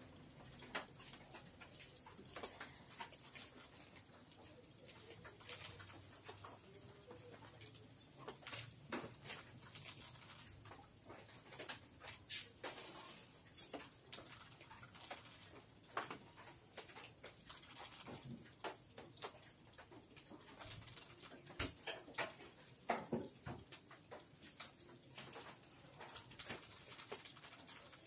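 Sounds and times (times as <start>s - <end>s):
faint rustles and clicks: 0.0s - 28.0s.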